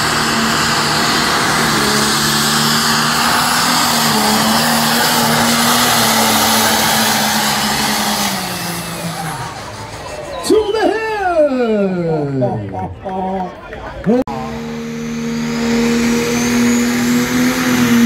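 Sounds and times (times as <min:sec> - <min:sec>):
diesel tractor engine at full throttle: 0:00.0 - 0:10.8, 0:14.2 - 0:18.0.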